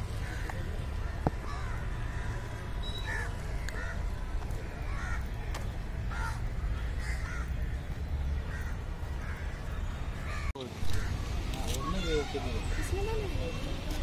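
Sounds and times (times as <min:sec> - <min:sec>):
birds calling: 0:00.0 - 0:13.7.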